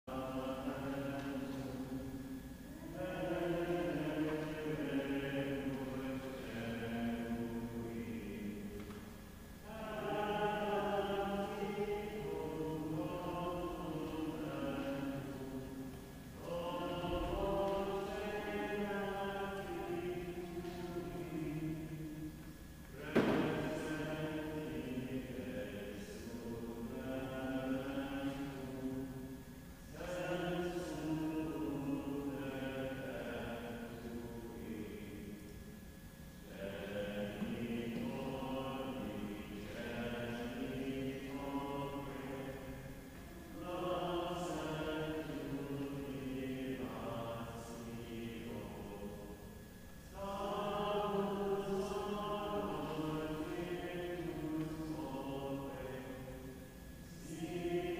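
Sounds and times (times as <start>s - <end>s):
slow sacred chant: 0.0s - 57.9s.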